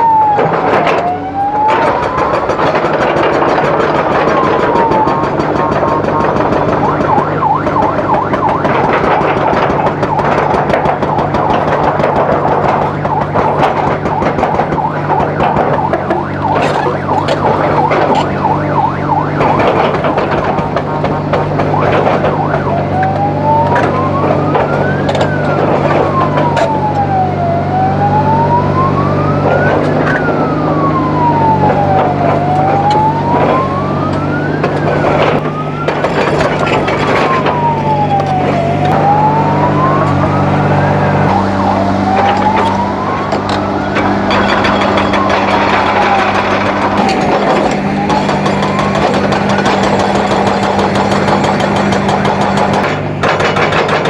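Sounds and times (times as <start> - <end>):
siren wailing up and down: 0.0 - 53.2
heavy diesel machinery running: 0.0 - 54.0.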